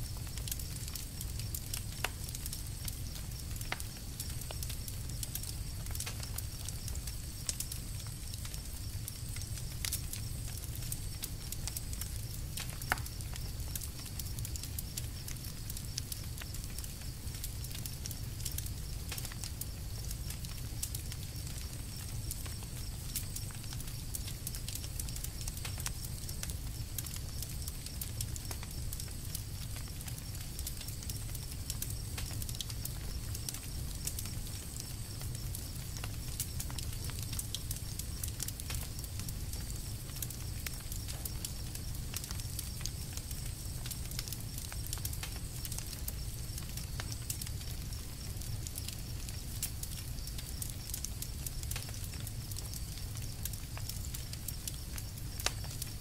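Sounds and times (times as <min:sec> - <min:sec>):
campfire crackling and popping: 0:00.0 - 0:56.0
low rumble of burning fire: 0:00.0 - 0:56.0.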